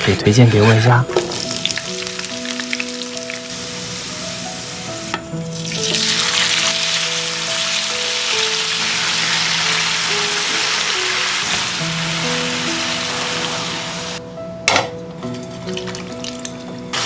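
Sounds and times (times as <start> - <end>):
food sizzling in hot oil: 0.0 - 14.2, 15.2 - 17.0.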